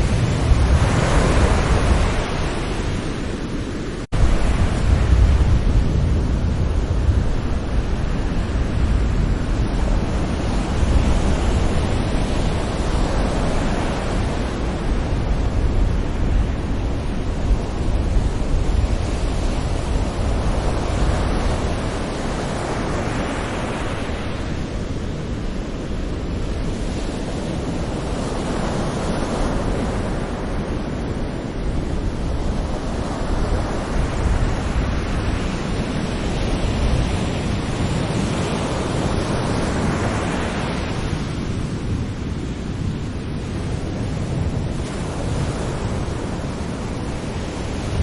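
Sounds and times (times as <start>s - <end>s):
sea waves breaking on shore: 0.0s - 48.0s.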